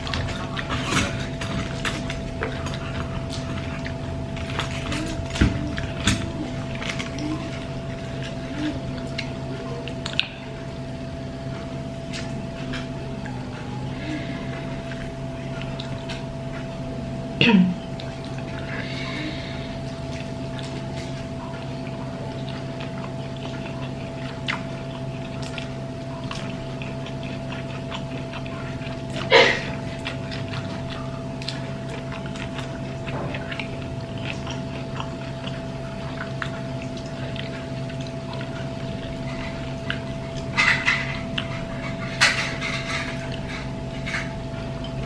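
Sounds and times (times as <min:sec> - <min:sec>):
steady electrical hum: 0:00.0 - 0:45.0.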